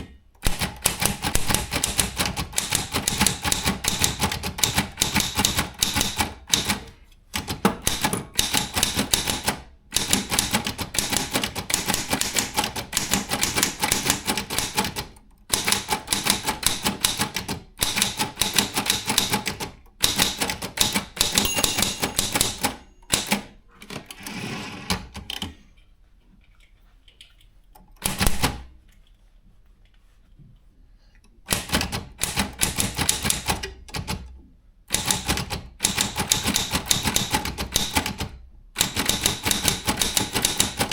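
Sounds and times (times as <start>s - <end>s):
manual typewriter clacking: 0.0s - 24.3s, 31.5s - 34.3s, 34.9s - 40.9s.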